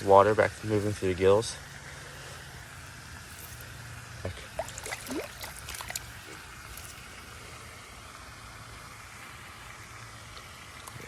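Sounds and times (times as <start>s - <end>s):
pond water splashing and sloshing: 0.0s - 11.0s.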